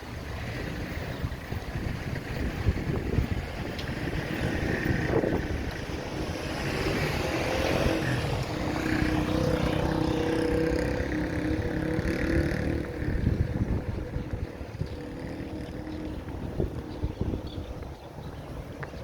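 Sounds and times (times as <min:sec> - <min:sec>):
wind buffeting microphone: 0:00.0 - 0:19.0
vehicle engine passing: 0:01.9 - 0:18.8.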